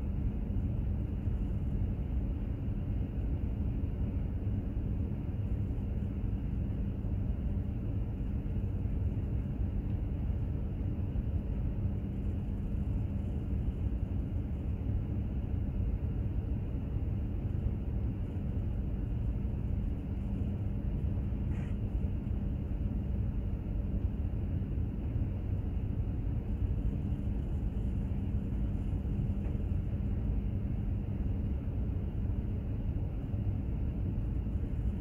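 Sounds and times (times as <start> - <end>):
machinery hum: 0.0 - 35.0
ship engine rumble: 0.0 - 35.0.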